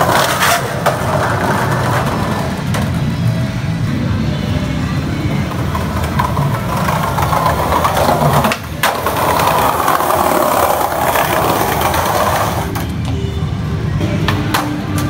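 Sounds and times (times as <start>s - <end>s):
skateboard wheels rolling on tiles: 0.0s - 15.0s.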